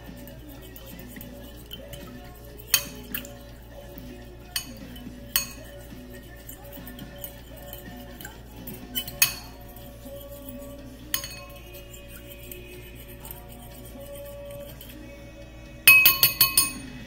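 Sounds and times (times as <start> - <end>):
metal fork clinking against bowl: 0.0 - 15.1, 15.9 - 17.0
soft background music: 0.0 - 17.0.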